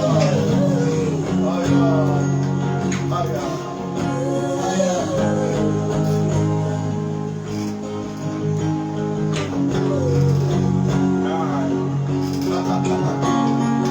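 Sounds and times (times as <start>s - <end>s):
acoustic guitar plucked and strummed: 0.0s - 13.9s
slow worship music: 0.0s - 13.9s.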